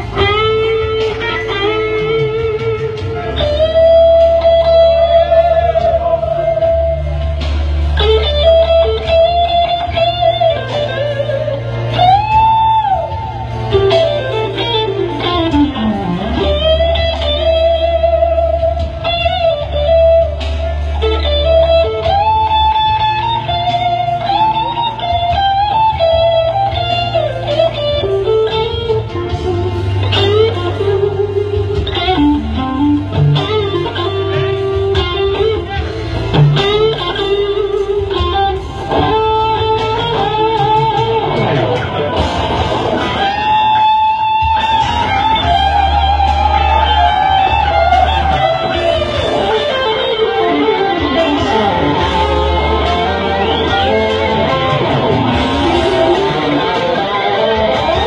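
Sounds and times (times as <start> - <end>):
electric guitar lead solo: 0.0 - 58.0
low bass backing: 0.0 - 58.0.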